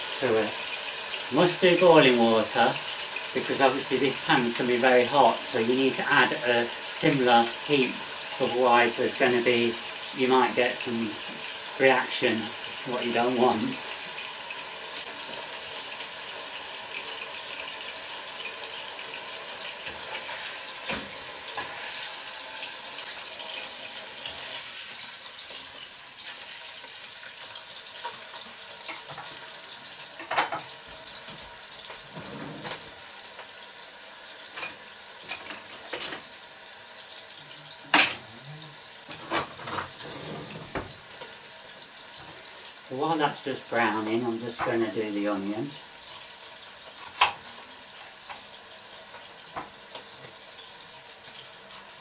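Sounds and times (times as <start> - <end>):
meat sizzling in a pot: 0.0 - 52.0.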